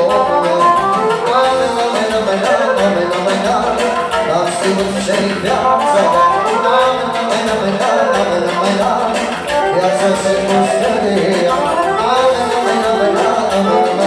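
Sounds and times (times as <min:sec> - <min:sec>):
accordion: 0:00.0 - 0:14.0
keyboard: 0:00.0 - 0:14.0
man singing into a microphone: 0:00.0 - 0:14.0.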